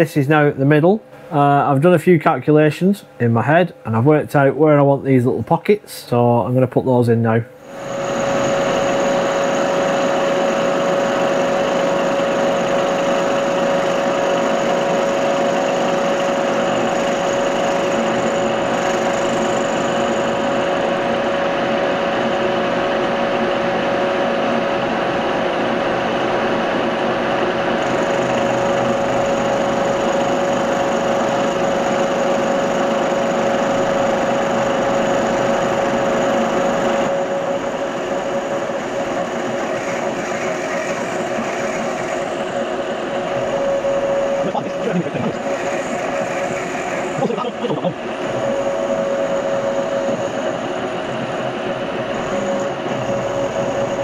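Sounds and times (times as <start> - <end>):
milling machine cutting steel: 7.6 - 54.0.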